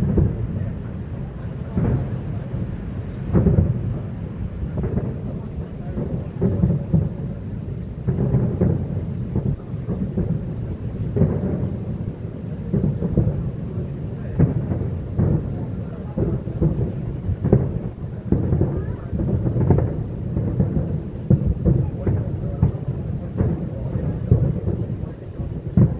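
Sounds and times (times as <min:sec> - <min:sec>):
distant fireworks rumble: 0:00.0 - 0:25.9
fireworks bangs: 0:00.0 - 0:25.9.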